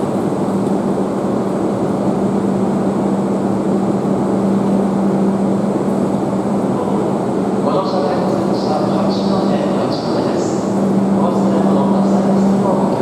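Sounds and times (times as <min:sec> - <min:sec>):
steady hum: 0:00.0 - 0:13.0
train rushing past: 0:01.5 - 0:13.0.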